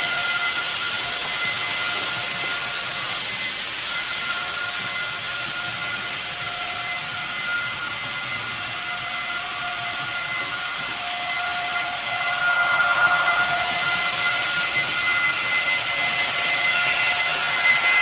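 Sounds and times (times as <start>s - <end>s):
electric motor whine: 0.0s - 18.0s
wheels rattling on track: 0.0s - 18.0s.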